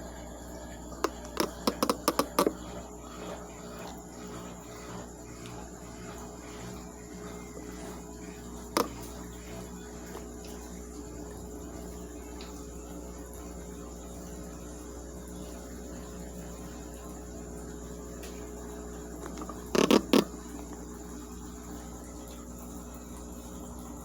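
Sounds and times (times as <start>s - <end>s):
washing machine humming: 0.0s - 24.0s.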